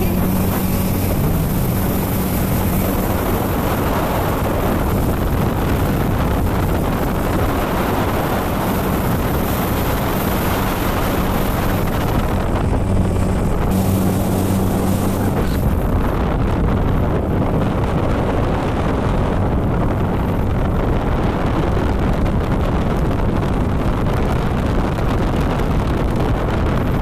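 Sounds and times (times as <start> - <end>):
outboard motor hum: 0.0 - 27.0
water rushing along hull: 0.0 - 27.0
wind buffeting microphone: 0.0 - 27.0.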